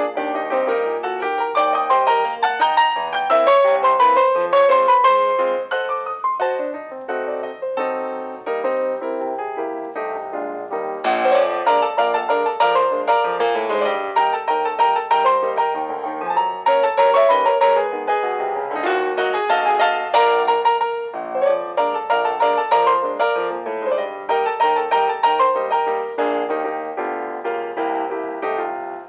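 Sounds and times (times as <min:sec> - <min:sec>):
lively piano melody: 0:00.0 - 0:29.0.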